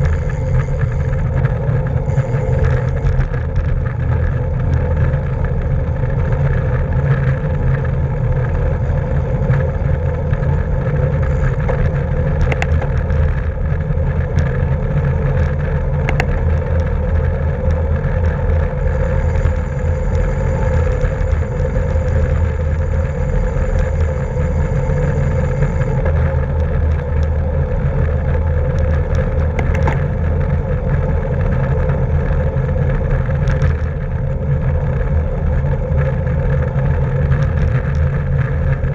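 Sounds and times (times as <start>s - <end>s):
bicycle road noise: 0.0s - 38.9s.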